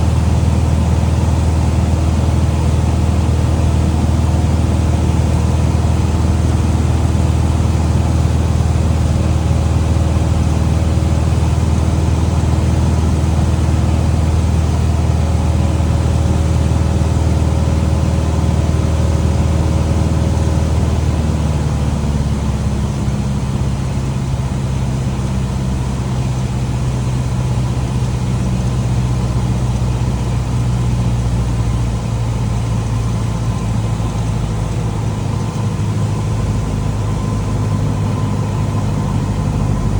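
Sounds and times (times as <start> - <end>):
small airplane engine droning: 0.0 - 39.9.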